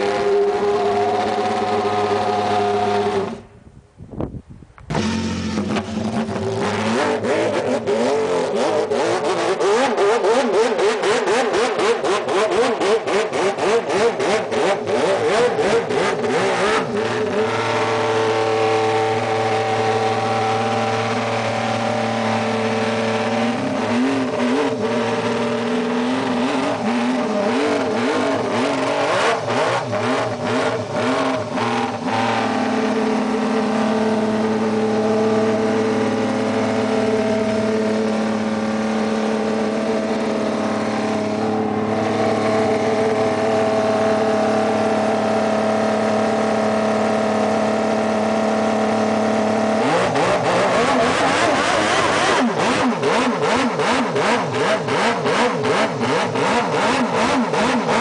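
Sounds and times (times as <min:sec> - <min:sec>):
engine throttle blips: 0:00.0 - 0:58.0
racing motorcycle engine: 0:00.0 - 0:58.0.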